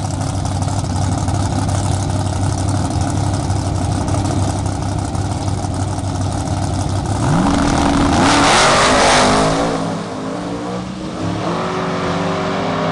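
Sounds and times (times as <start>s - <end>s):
drag car engine revving: 0.0s - 12.9s.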